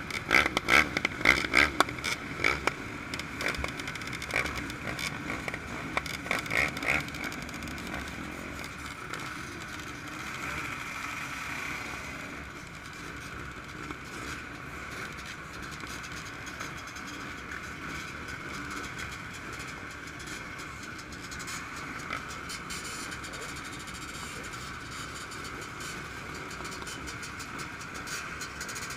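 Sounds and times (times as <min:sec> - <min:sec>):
dirt bike engines running: 0:00.0 - 0:28.9.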